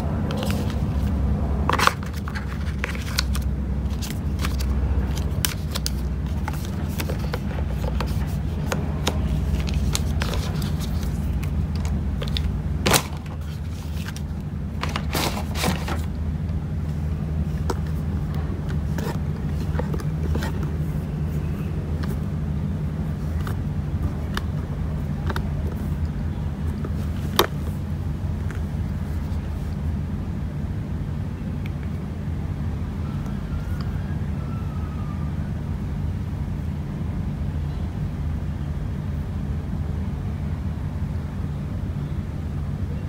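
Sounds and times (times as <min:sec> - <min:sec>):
low rumbling hum: 0:00.0 - 0:43.0.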